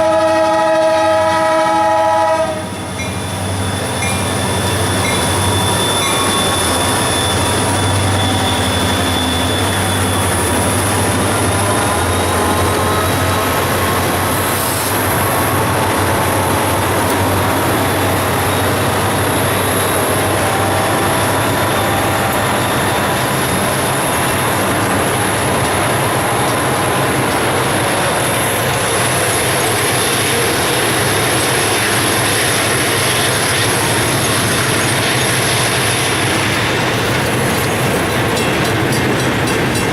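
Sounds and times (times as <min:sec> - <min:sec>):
steel wheels roaring on rail: 0:00.0 - 0:39.9
high wheel squeal: 0:02.6 - 0:39.0.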